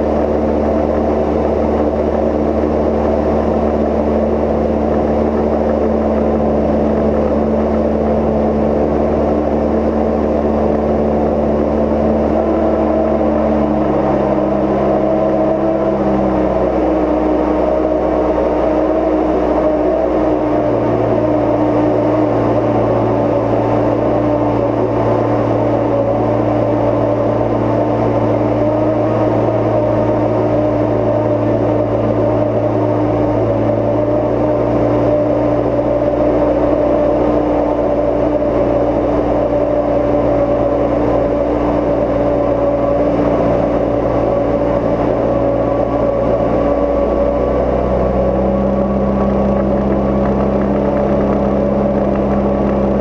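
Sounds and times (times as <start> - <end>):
aircraft engine and propeller drone: 0.0 - 53.0.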